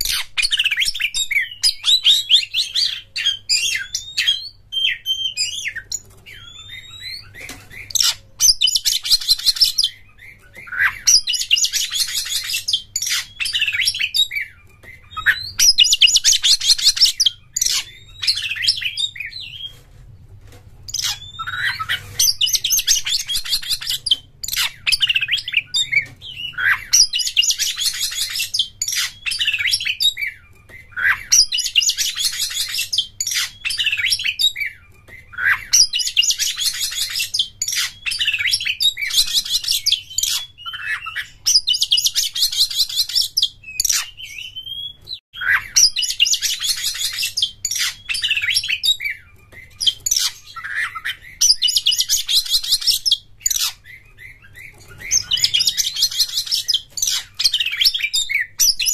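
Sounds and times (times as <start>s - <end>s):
whistled bird notes: 0.0s - 19.7s, 20.9s - 58.9s
bird singing trilled phrases: 0.0s - 19.8s, 20.9s - 58.9s.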